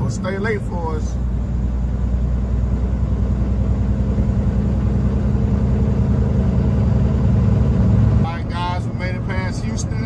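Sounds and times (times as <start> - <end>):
road and tyre noise: 0.0 - 10.0
truck diesel engine running: 0.0 - 10.0.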